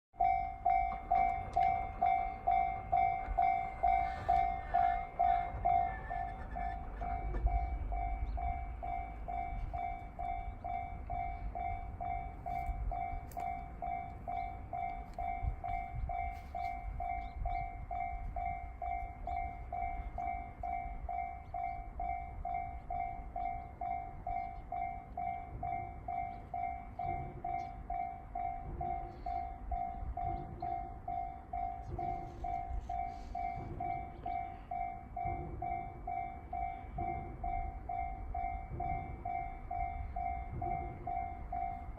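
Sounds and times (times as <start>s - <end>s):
level-crossing warning bell: 0.1s - 41.9s
train rumbling past: 0.2s - 41.9s.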